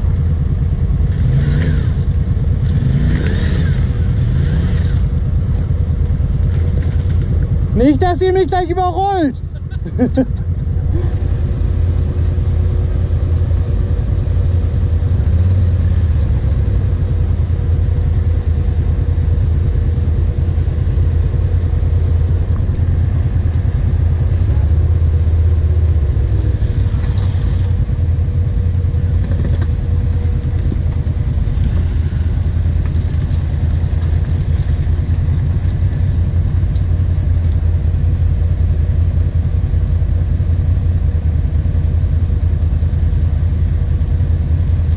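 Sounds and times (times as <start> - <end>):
quad engine idling: 0.0 - 44.9.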